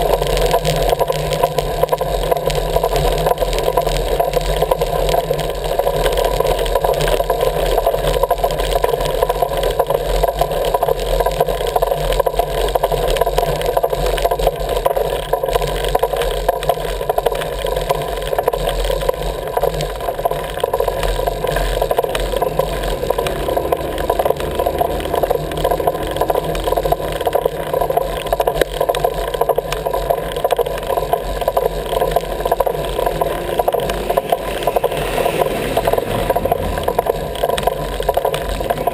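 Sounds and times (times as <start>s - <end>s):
wheels rolling over rough asphalt: 0.0s - 38.9s.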